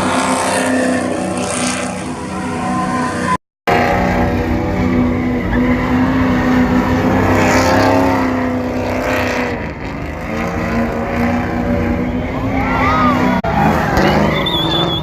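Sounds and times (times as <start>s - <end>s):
truck engine running loudly: 0.0s - 15.0s.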